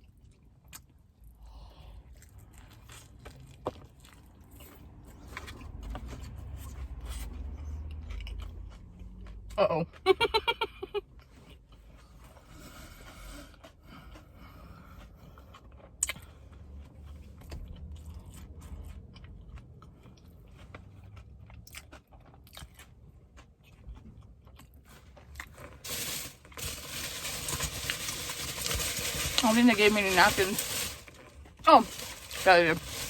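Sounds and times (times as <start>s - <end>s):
person chewing crunchy food: 0.0s - 10.0s, 11.0s - 29.5s.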